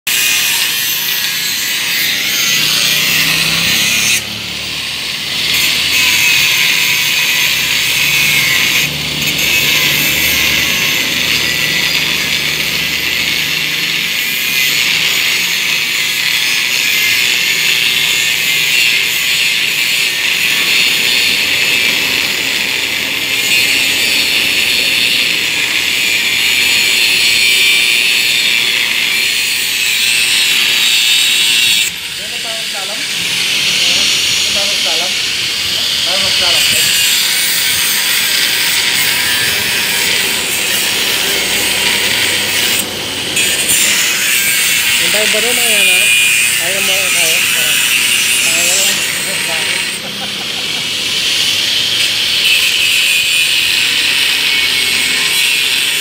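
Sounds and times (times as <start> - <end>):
angle grinder cutting steel: 0.1 - 56.0.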